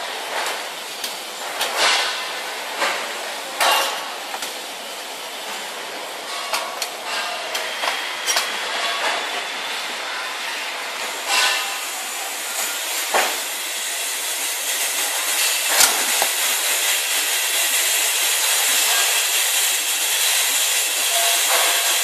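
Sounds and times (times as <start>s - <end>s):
workshop background noise: 0.0s - 22.0s.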